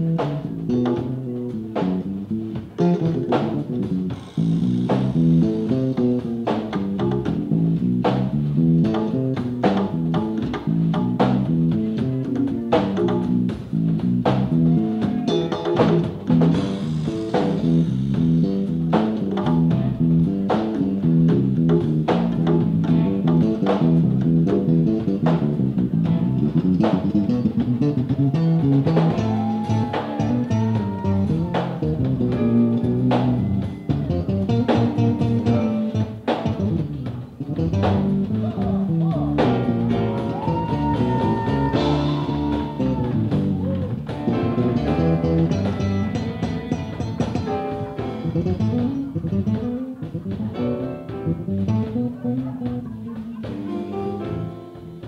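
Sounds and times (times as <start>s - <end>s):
drum kit beat: 0.0s - 55.0s
electric bass line: 0.0s - 55.0s
electric guitar: 0.0s - 55.0s.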